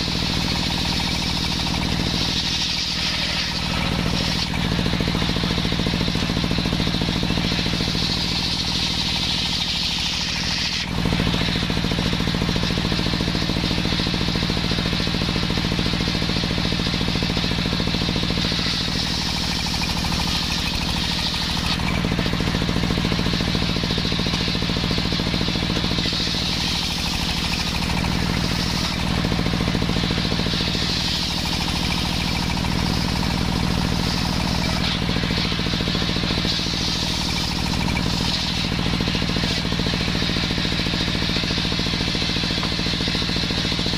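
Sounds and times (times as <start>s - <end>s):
circular saw engine running: 0.0s - 43.9s
saw blade cutting whine: 0.0s - 43.9s.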